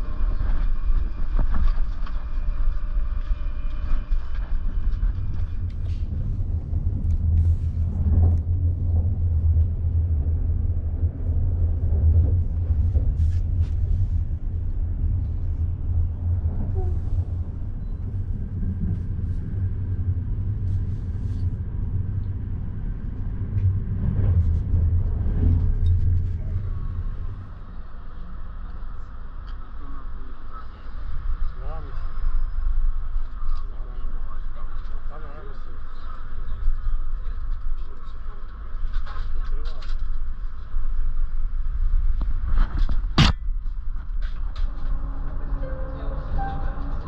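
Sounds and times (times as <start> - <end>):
train carriage rumbling: 0.0 - 47.0.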